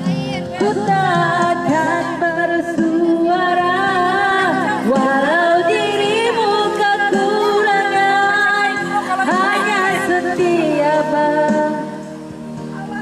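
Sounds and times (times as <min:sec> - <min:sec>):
person singing love song: 0:00.0 - 0:13.0.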